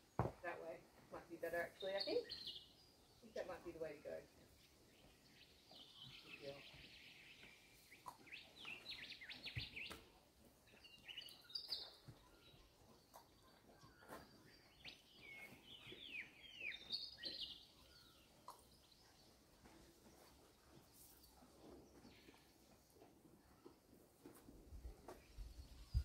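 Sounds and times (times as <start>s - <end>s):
birdsong with high chirps: 1.7s - 23.9s, 24.8s - 26.0s.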